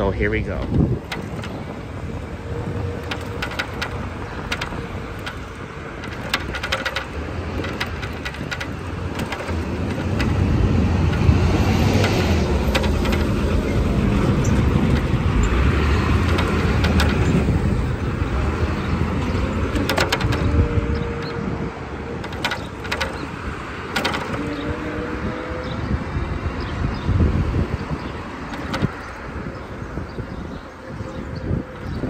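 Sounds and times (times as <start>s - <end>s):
bicycle rolling on street: 0.0s - 32.0s
bike rattling over bumps: 0.0s - 32.0s.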